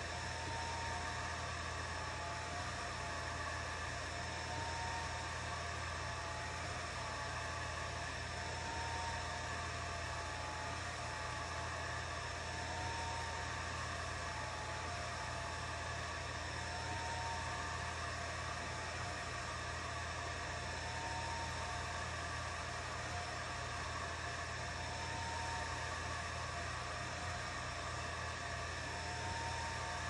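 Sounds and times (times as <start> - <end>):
fan whir and hiss: 0.0 - 30.0.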